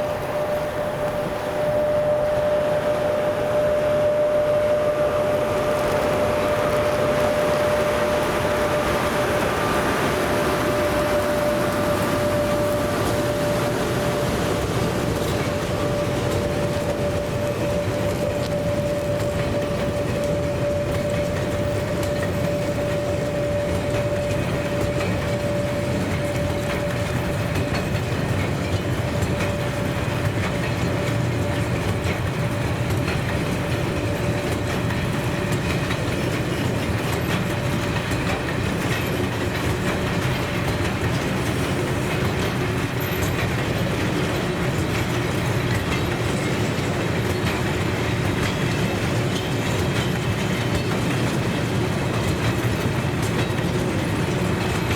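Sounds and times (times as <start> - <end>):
train rolling past: 0.0 - 54.9.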